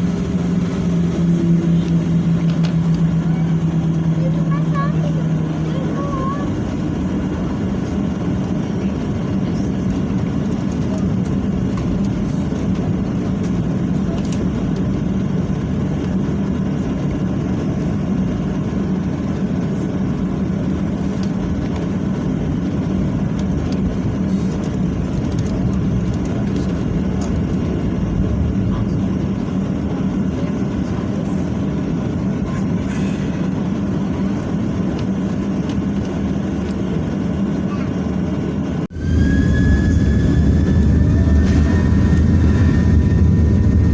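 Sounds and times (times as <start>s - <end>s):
jet engines rumbling: 0.0s - 43.9s.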